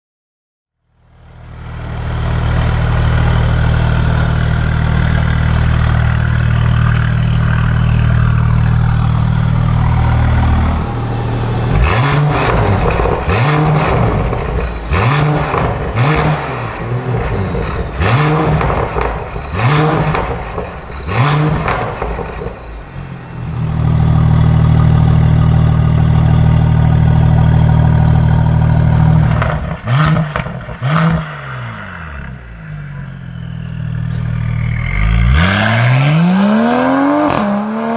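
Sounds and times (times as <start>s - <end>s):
car engine idling: 0.8s - 30.8s, 31.7s - 35.5s
engine throttle blips: 1.2s - 37.5s.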